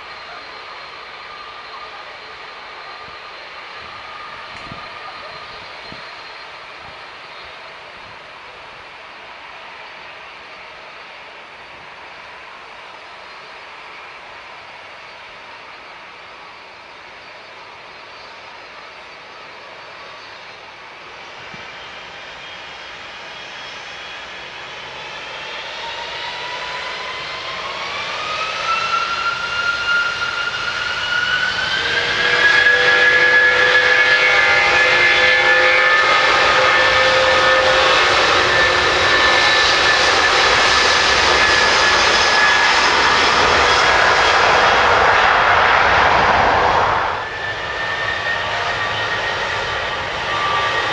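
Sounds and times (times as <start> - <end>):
jet engines spooling up: 0.0 - 50.9.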